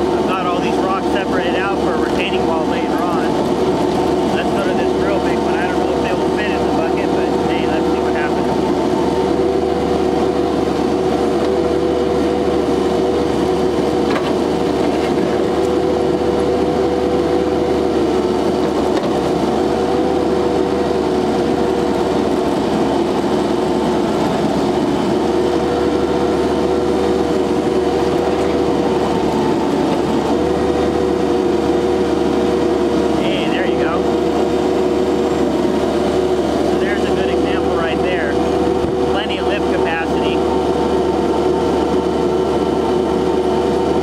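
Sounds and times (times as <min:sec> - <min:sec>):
loader engine droning with whine: 0:00.0 - 0:44.0.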